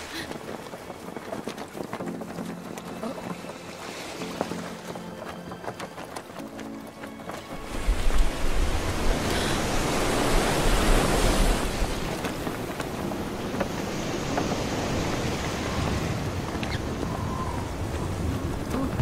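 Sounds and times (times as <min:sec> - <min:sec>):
rough sea waves: 0:00.0 - 0:19.0
wind: 0:00.0 - 0:19.0.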